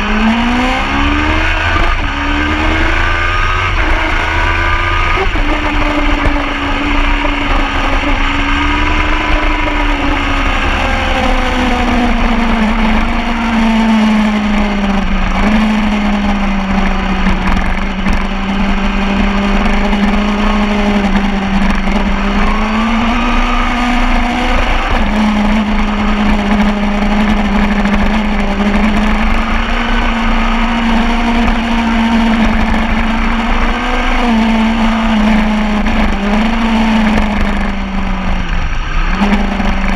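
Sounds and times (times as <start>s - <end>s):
motorcycle engine running: 0.0s - 39.9s
wind rumble: 0.0s - 39.9s.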